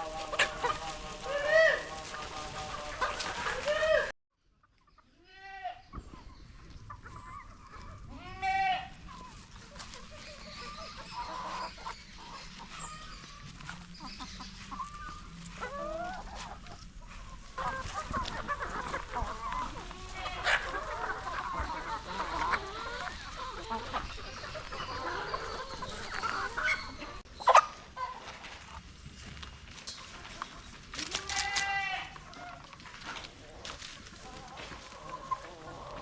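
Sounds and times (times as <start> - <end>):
chickens squawking: 0.0 - 4.1, 5.8 - 28.9, 30.0 - 36.0.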